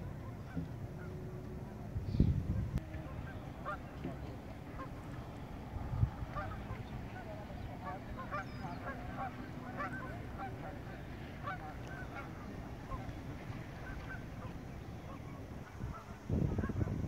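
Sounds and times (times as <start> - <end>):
geese honking: 0.0 - 17.0
low steady rumble: 0.0 - 17.0.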